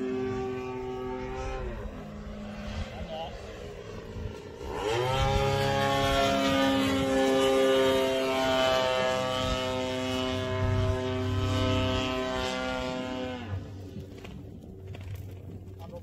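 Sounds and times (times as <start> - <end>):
model airplane engine buzzing: 0.0 - 16.0.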